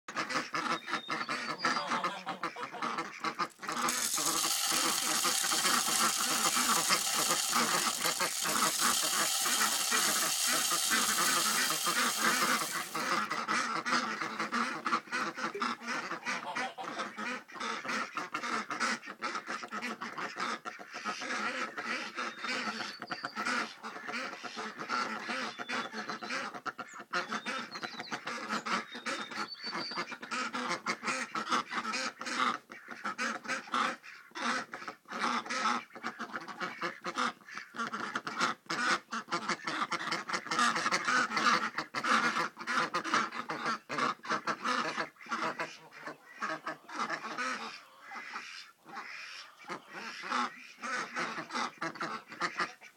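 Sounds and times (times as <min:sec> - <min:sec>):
ducks quacking: 0:00.1 - 0:29.4, 0:30.0 - 0:52.9.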